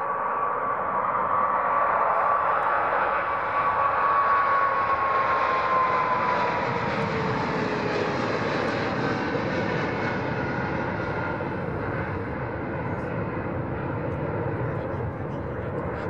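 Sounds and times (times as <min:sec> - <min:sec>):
jet engines at takeoff: 0:00.0 - 0:16.0.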